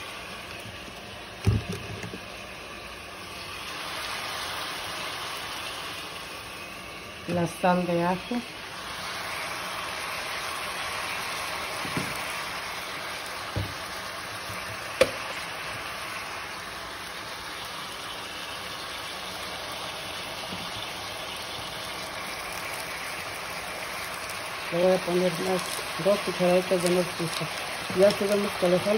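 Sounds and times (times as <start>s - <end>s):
chicken sizzling in a pan: 0.0s - 28.9s.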